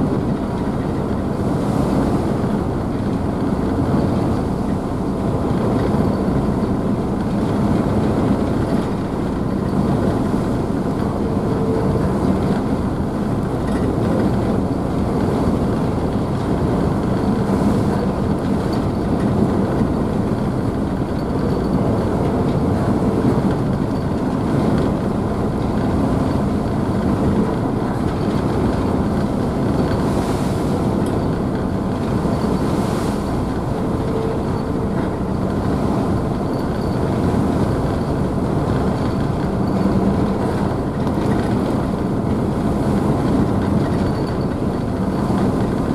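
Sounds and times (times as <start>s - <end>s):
ship engines droning: 0.0s - 45.9s.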